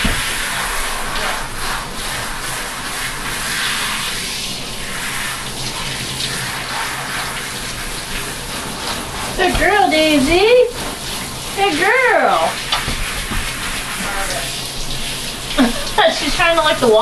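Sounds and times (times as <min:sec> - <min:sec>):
shower water spraying: 0:00.0 - 0:17.0
water splashing into bathtub: 0:00.0 - 0:17.0.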